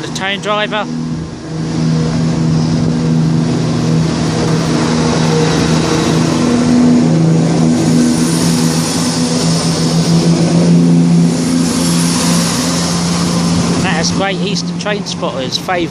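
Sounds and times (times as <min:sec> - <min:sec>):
diesel train engines droning: 0:00.0 - 0:15.9.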